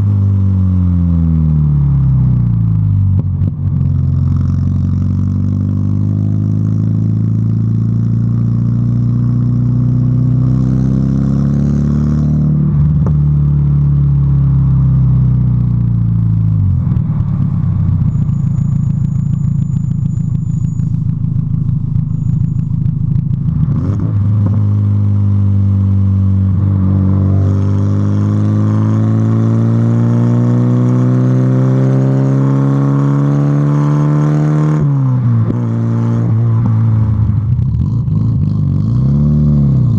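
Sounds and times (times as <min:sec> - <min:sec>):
car engine and exhaust accelerating: 0:00.0 - 0:39.9.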